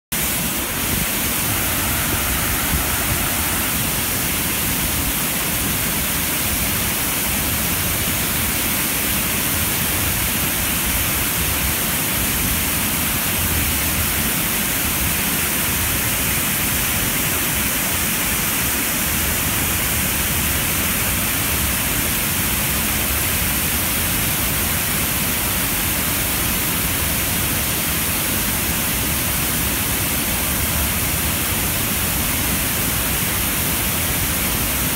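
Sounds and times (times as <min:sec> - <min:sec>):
water rushing through dam: 0:00.2 - 0:34.9.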